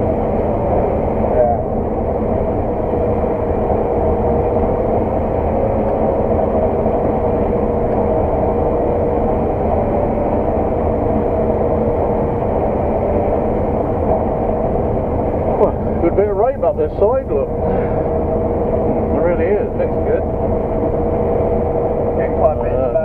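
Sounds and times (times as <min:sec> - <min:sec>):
combine harvester droning: 0:00.0 - 0:23.0
thin steady whine: 0:00.0 - 0:23.0.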